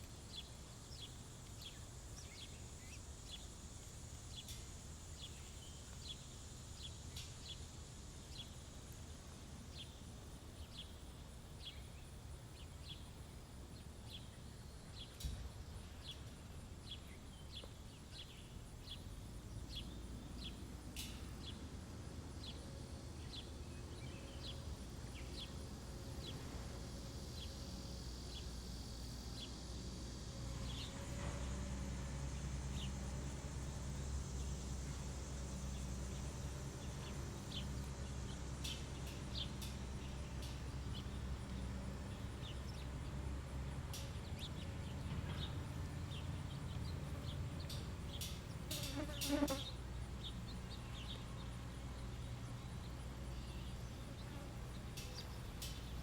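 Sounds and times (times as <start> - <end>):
high hiss of summer ambience: 0.0 - 56.0.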